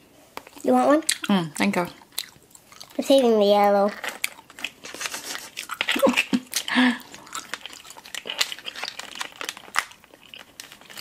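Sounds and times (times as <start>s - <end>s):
chewing gummy candy: 0.4s - 11.0s.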